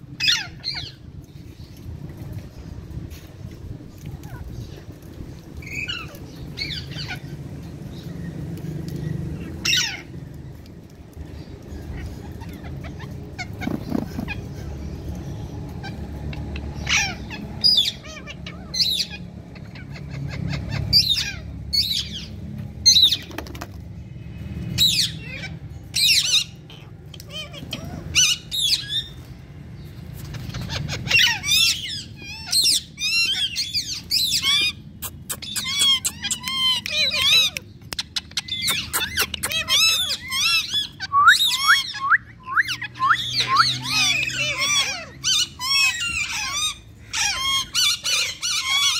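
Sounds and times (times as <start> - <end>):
parrots chirping and chattering: 0.0 - 48.9.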